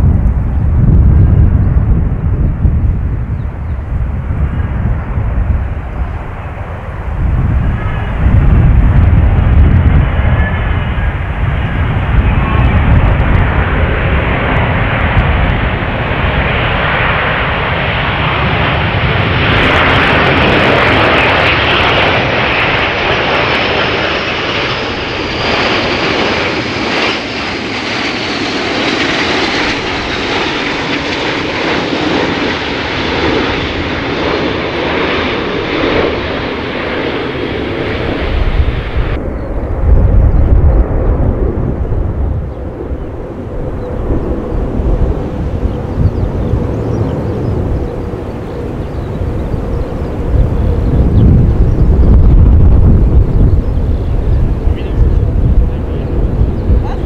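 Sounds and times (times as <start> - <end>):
jet engines flying over: 0.0 - 57.0.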